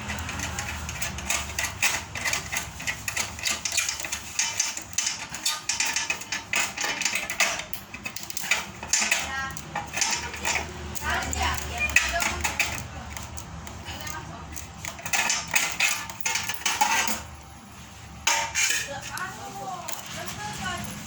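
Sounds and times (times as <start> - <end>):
metal parts clinking: 0.0 - 17.4, 18.2 - 21.0.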